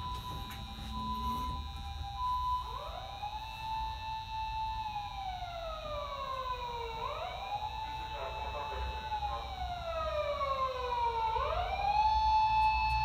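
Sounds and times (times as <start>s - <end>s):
two-tone siren: 0.0s - 13.0s
wailing siren: 0.0s - 13.0s.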